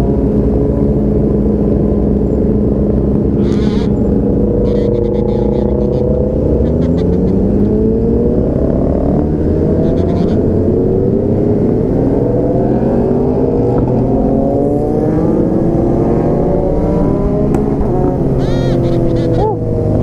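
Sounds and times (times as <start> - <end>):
motorcycle engine accelerating: 0.0 - 20.0
wind and road noise: 0.0 - 20.0.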